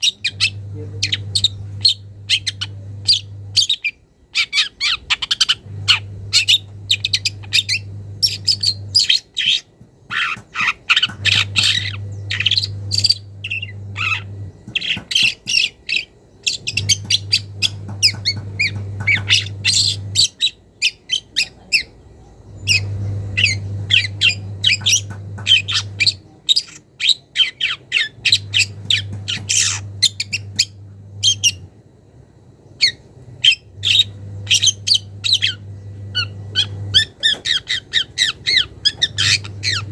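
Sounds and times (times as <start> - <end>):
low hum: 0.0 - 9.5, 10.1 - 20.8, 21.5 - 26.4, 27.9 - 39.9.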